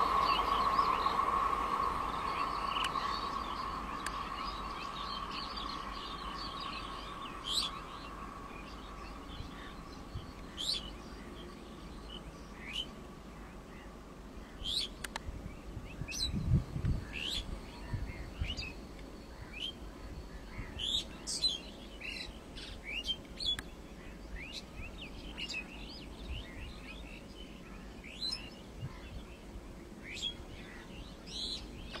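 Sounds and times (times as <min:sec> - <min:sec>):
faint low rumble: 0:00.0 - 0:32.0
small birds chirping: 0:00.0 - 0:32.0.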